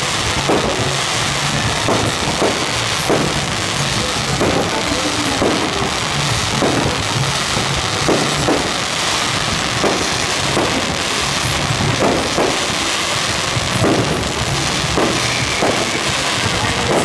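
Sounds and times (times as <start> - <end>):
fairground music: 0.0 - 17.0
firework crackling: 0.0 - 17.0
muffled firework bangs: 0.0 - 17.0.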